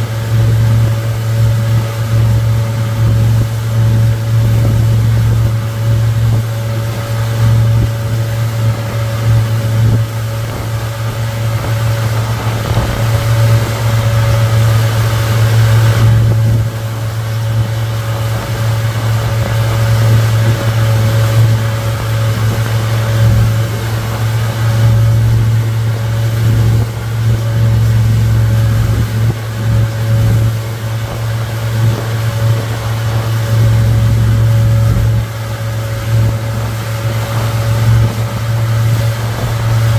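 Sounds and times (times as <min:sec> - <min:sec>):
outboard motor running: 0:00.0 - 0:39.9
water rushing: 0:00.0 - 0:39.9
wind on microphone: 0:00.0 - 0:39.9.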